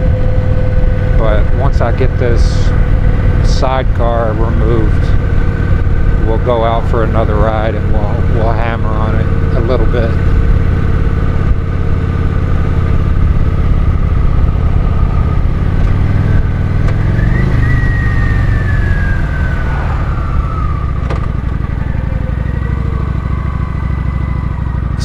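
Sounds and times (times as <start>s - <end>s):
high whine sliding down: 0.0s - 25.0s
motorcycle engine revving: 0.0s - 25.0s.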